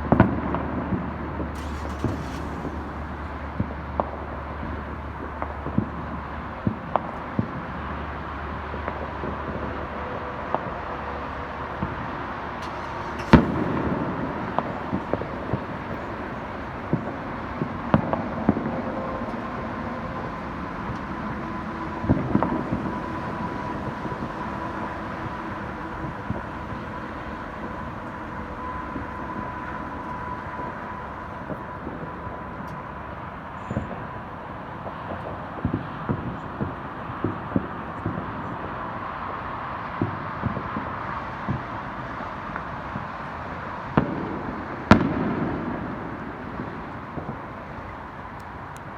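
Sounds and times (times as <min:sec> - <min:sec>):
fireworks bangs and pops: 0:00.0 - 0:11.1, 0:11.7 - 0:32.5, 0:34.8 - 0:48.9.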